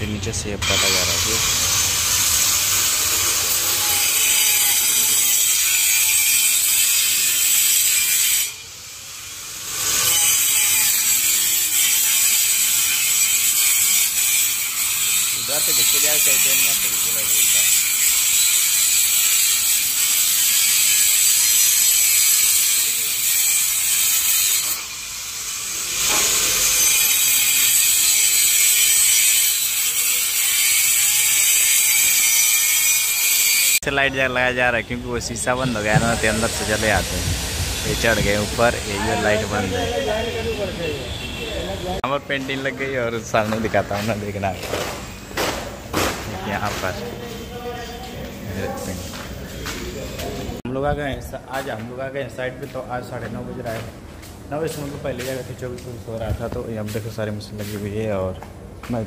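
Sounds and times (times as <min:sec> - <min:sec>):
angle grinder cutting masonry: 0:00.0 - 0:50.6.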